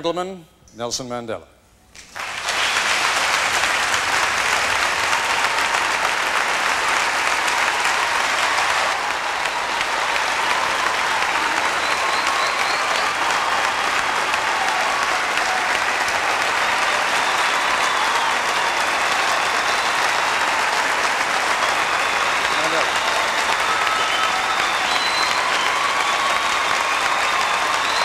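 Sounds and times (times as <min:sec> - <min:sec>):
audience applause: 0:02.0 - 0:28.0.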